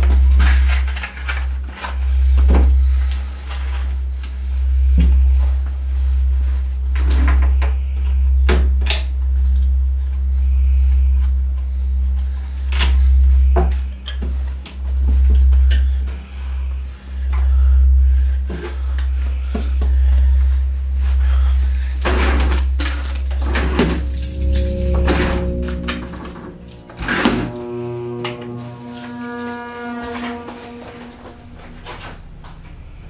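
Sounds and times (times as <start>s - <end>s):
deep bass drone: 0.0s - 33.0s.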